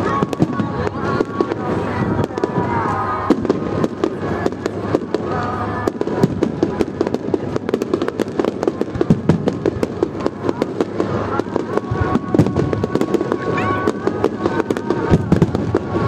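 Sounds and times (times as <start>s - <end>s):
fireworks crackling and popping: 0.0s - 16.0s
loud firework bangs: 0.0s - 16.0s.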